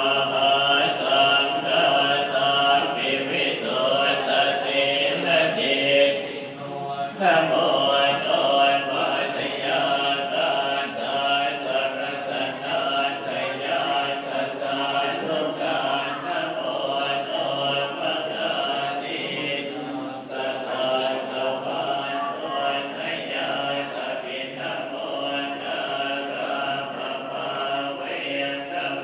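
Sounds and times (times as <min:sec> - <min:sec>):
voices chanting in unison: 0:00.0 - 0:29.0.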